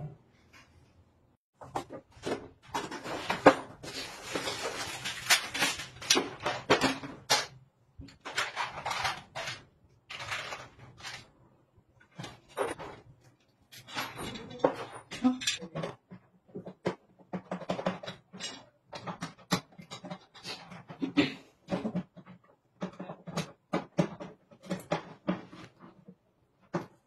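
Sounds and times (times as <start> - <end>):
metal parts clattering on tile floor: 1.6 - 11.3, 12.0 - 13.0, 13.7 - 25.6.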